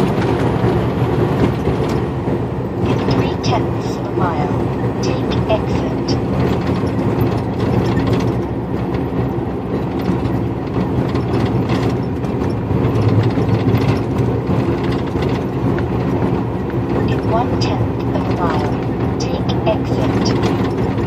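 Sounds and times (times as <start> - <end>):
cab rattling: 0.0 - 21.0
diesel engine drone: 0.0 - 21.0
road noise: 0.0 - 21.0.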